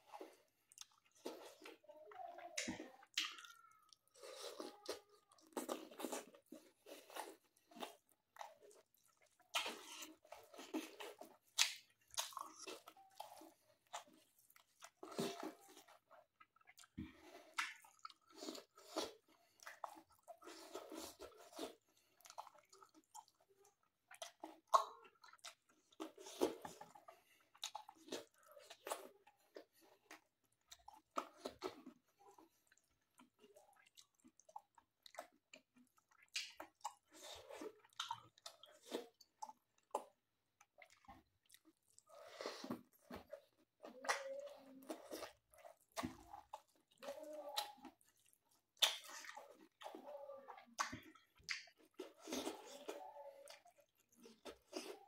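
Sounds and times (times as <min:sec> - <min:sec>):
wet chewing clicks: 0:00.1 - 0:55.0.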